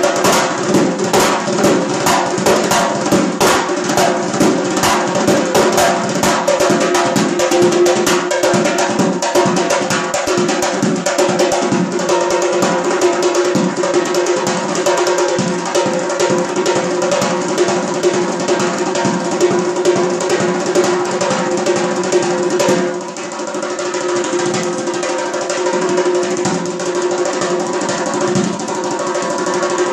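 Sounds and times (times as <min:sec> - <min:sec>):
frame drum played with fingers: 0:00.0 - 0:29.9.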